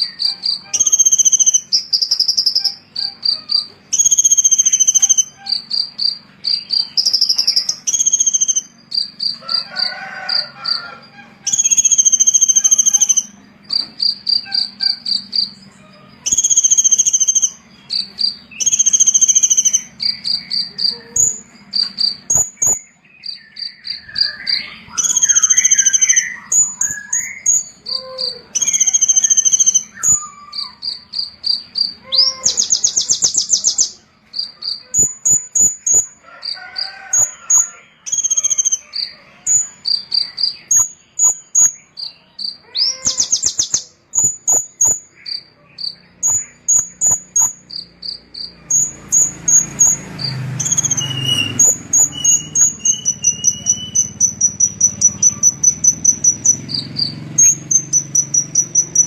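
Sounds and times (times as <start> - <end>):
songbird chirps and trills: 0.0 - 59.0.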